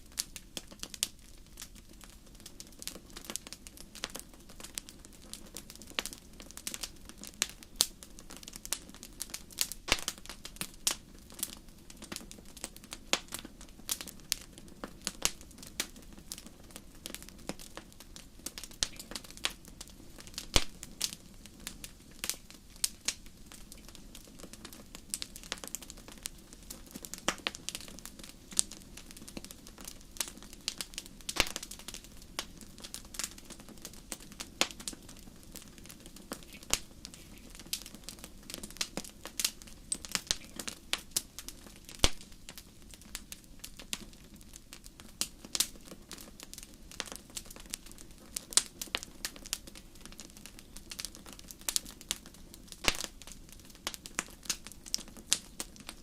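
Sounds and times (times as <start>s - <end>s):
low hiss of flames: 0.0s - 56.0s
wood fire pops and snaps: 0.1s - 56.0s.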